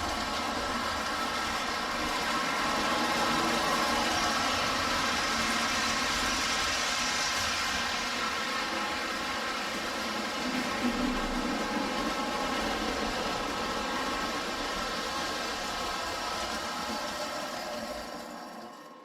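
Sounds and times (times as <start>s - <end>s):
model train motor hum: 0.0s - 19.0s.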